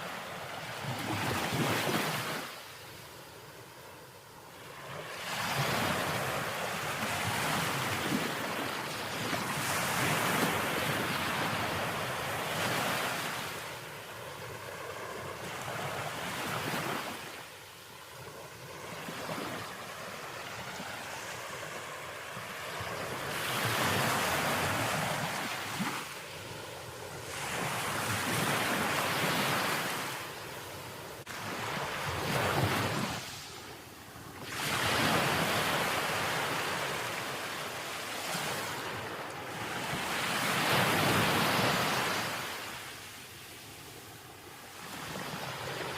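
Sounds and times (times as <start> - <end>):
sea waves breaking on shore: 0.0 - 45.9.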